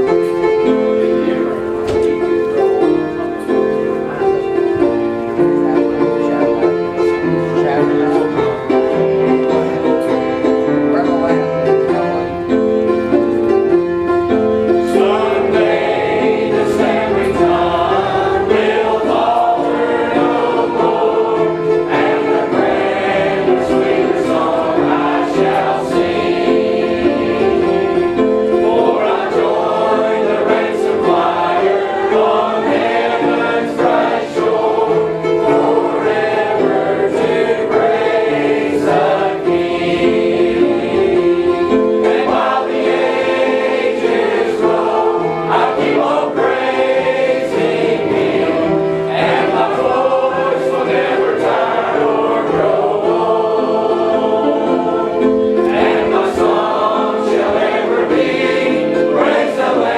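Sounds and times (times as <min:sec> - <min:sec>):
choir singing a gospel hymn: 0:00.0 - 0:59.9.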